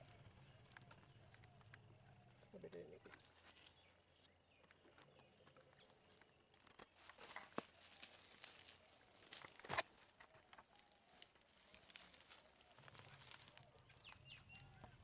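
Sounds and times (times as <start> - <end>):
faint rustling: 2.4 - 15.0.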